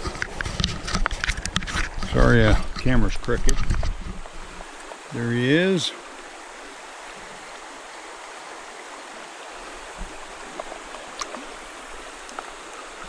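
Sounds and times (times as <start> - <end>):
faint ticks and splashes: 0.0 - 13.0
river current over rocks: 0.0 - 13.0.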